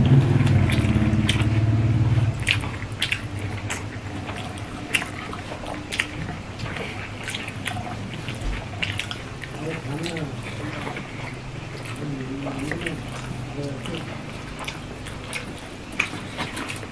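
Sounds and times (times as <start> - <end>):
chewing: 0.0 - 16.9
hands kneading wet food: 0.0 - 16.9
low steady hum: 0.0 - 16.9.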